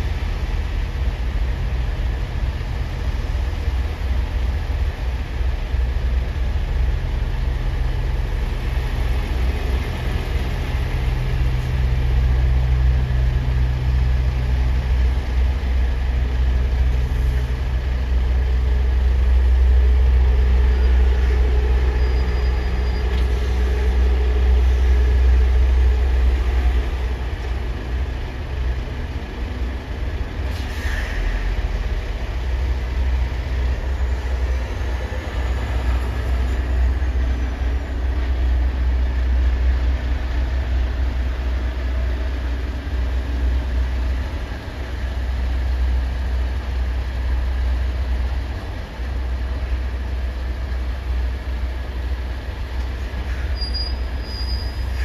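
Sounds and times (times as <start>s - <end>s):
diesel engines rumbling: 0.0s - 55.0s.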